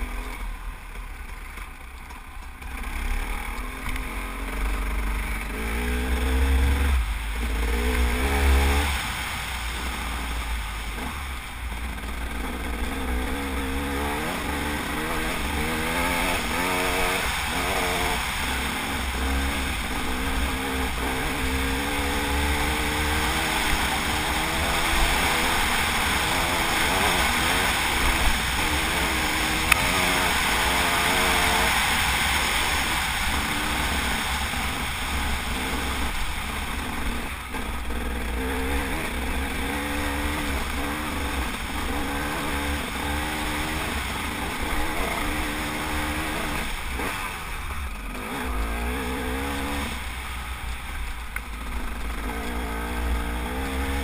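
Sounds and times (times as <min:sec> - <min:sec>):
dirt bike engine revving: 0:02.6 - 0:54.0.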